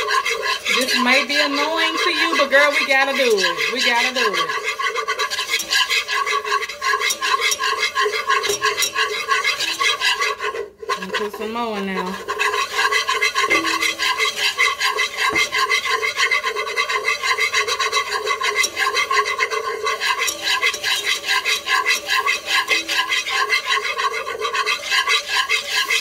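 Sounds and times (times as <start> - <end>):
whisk scraping pot bottom: 0.0 - 26.0.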